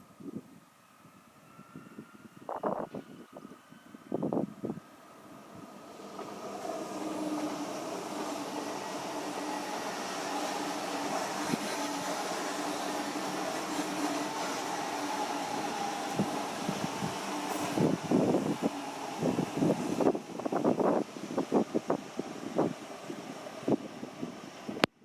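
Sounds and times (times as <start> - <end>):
train passing on tracks: 0.0 - 25.0.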